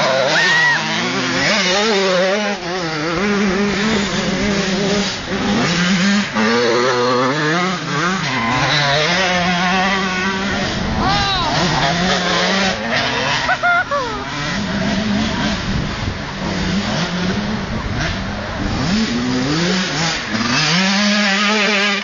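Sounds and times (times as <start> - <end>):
motocross bike engines revving: 0.0 - 22.0
motorbike passing close: 0.0 - 22.0.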